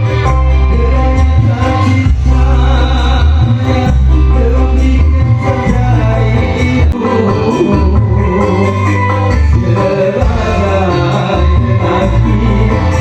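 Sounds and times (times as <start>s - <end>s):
song with heavy bass over sound system: 0.0s - 13.0s.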